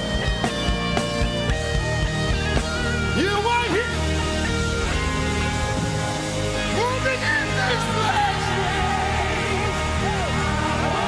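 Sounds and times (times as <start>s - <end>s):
gospel worship band playing: 0.0s - 11.0s
sustained bass and keyboard notes: 0.0s - 11.0s.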